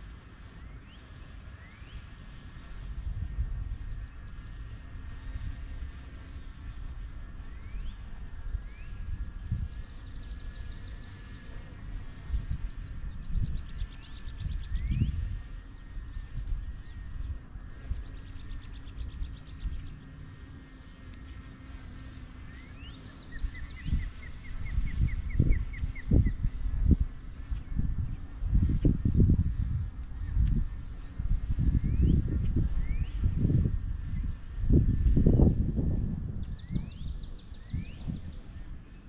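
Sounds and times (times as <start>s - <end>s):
wild birds chirping and trilling: 0.0s - 35.5s, 36.2s - 39.0s.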